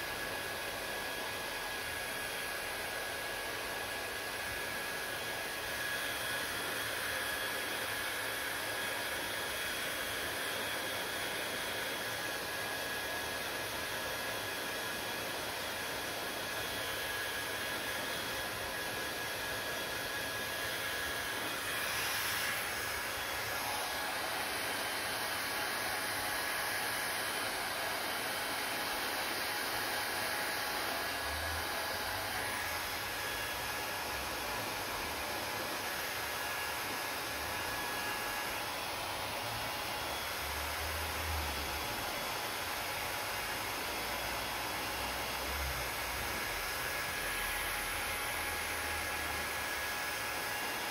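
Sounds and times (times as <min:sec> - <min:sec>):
hair dryer blowing: 0:00.0 - 0:50.9.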